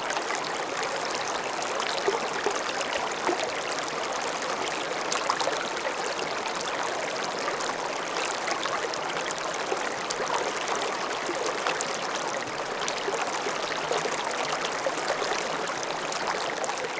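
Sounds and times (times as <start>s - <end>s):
stream flowing over stones: 0.0s - 16.9s.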